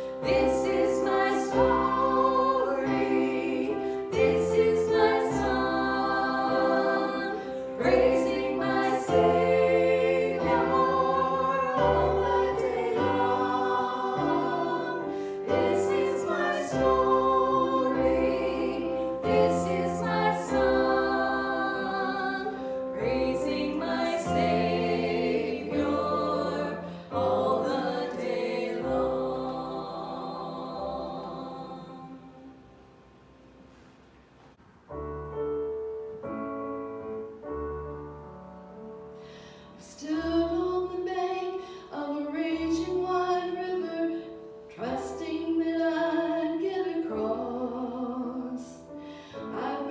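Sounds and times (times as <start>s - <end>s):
group singing a hymn: 0.0s - 32.6s, 40.4s - 49.9s.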